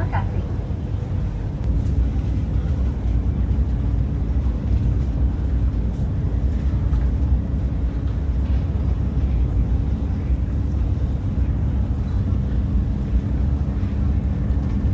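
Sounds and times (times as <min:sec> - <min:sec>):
train rumbling at speed: 0:00.0 - 0:14.9.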